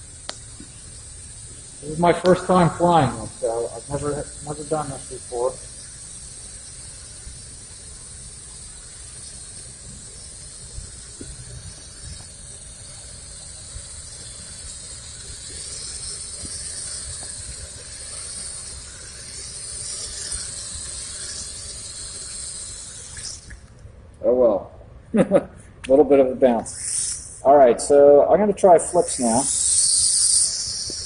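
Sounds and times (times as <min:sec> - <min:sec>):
toy quadcopter motors whining: 0:00.0 - 0:23.7, 0:26.6 - 0:27.4, 0:28.9 - 0:31.0.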